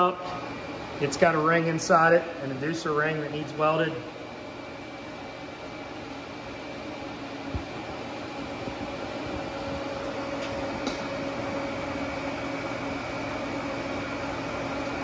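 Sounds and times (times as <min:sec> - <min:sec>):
shop equipment humming: 0:00.0 - 0:15.0.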